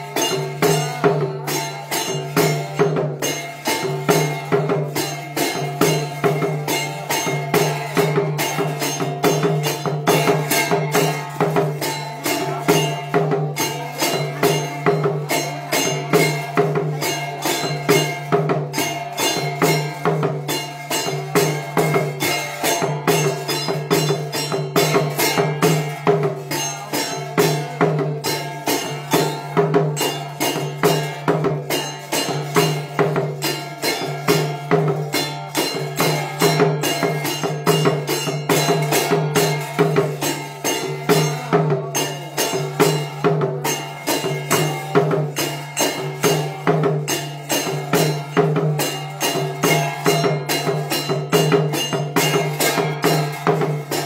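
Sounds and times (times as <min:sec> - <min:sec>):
jingling percussion: 0:00.0 - 0:54.0.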